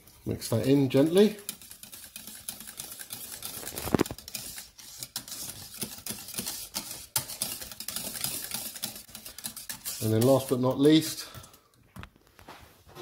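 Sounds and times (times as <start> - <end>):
whisk clicking against saucepan: 0.5 - 11.6.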